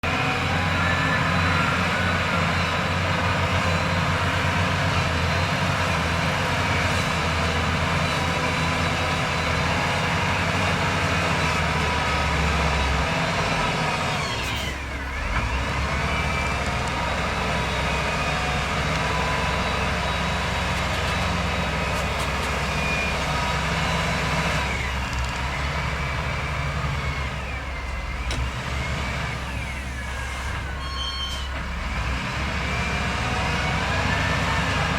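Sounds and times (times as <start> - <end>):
diesel machinery engines droning: 0.0 - 34.9.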